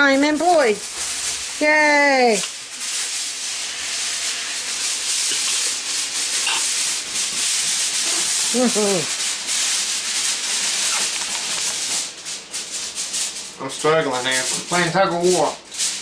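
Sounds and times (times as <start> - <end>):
steady hissing noise: 0.0 - 14.5.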